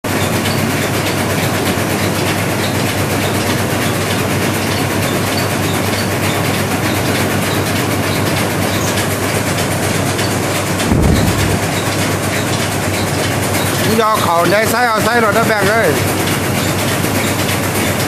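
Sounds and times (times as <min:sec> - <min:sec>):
rice milling machine rattle: 0:00.0 - 0:18.0
low machine hum: 0:00.1 - 0:18.0.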